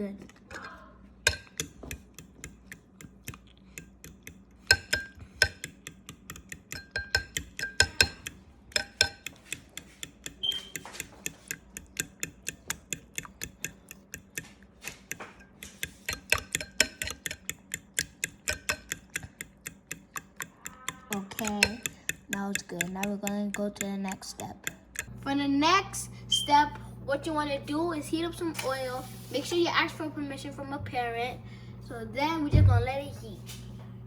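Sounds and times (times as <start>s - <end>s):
fork beating eggs in bowl: 1.2s - 33.9s.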